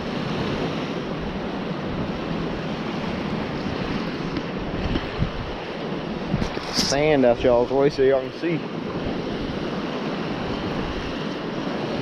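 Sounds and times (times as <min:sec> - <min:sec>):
surf washing: 0:00.0 - 0:12.0
wind buffeting microphone: 0:00.0 - 0:12.0.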